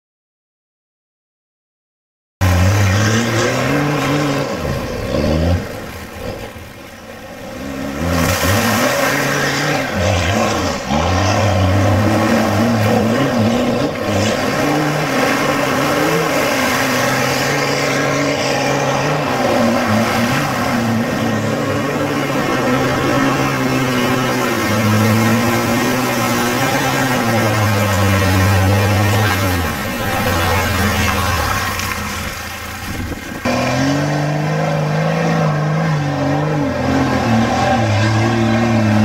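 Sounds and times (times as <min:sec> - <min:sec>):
engine revving: 0:02.4 - 0:39.0.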